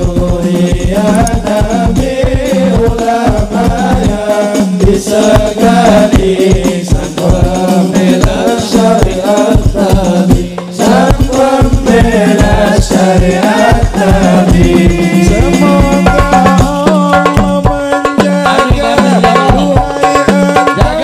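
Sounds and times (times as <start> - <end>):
fast steady drumbeat: 0.0 - 21.0
voices singing in unison: 0.0 - 21.0.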